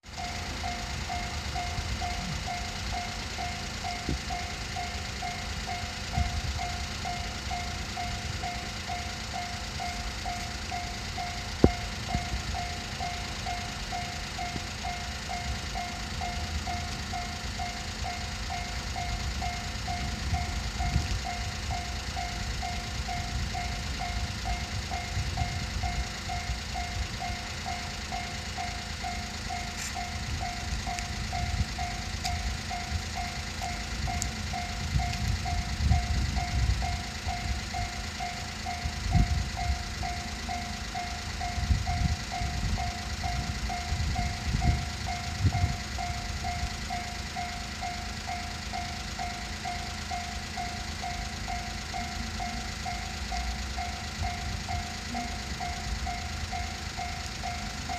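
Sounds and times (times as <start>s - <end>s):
railroad crossing alarm ringing: 0.0s - 57.9s
low rumble: 0.2s - 57.9s.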